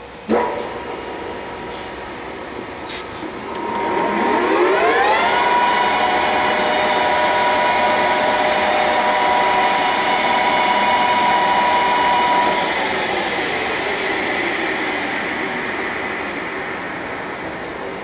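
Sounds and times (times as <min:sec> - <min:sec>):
gear whine: 0:00.3 - 0:18.0
lathe running: 0:00.6 - 0:18.0.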